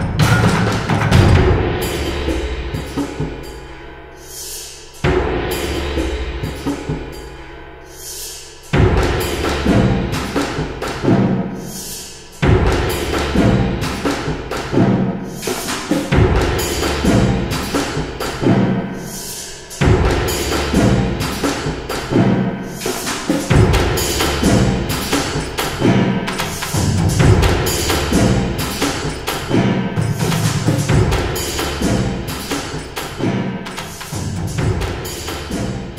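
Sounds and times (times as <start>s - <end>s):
background music with percussion: 0.0s - 4.1s, 4.7s - 7.8s, 8.6s - 35.9s.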